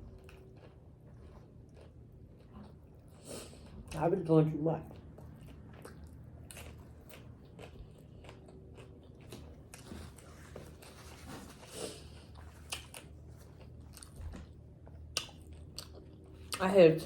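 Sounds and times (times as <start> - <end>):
person chewing food: 0.0 - 3.9, 4.8 - 16.6.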